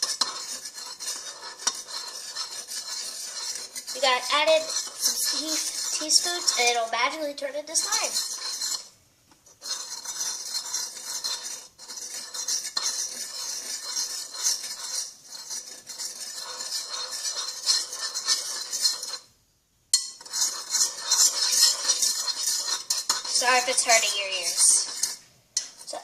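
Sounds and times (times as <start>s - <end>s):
metal spoon scraping glass bowl: 0.0s - 19.3s, 20.0s - 26.0s.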